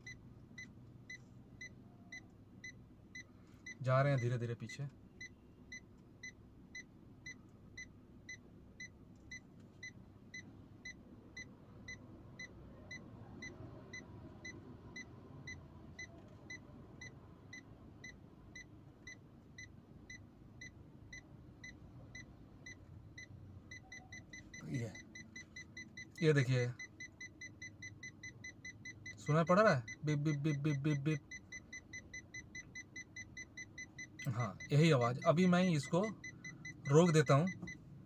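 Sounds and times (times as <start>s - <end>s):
faint low engine hum: 0.0s - 38.0s
parking sensor short beeps: 0.0s - 38.0s.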